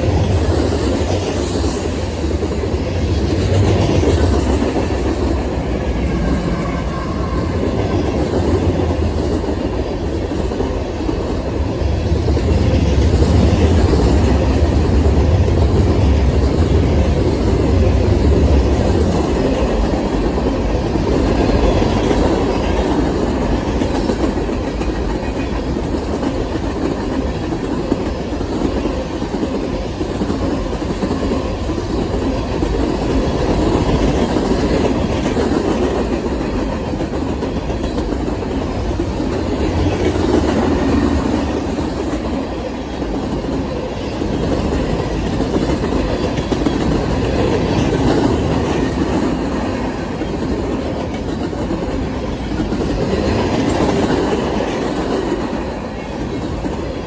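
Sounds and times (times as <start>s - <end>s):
freight train rolling past: 0.0s - 57.0s
steel wheels rumbling on rails: 0.0s - 57.0s.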